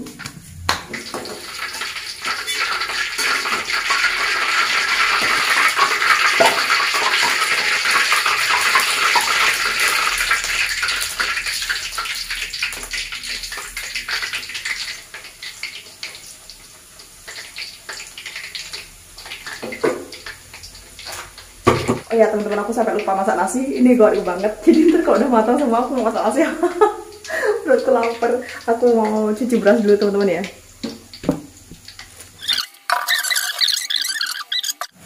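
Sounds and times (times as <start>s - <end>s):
tofu sizzling in hot oil: 0.0s - 35.0s.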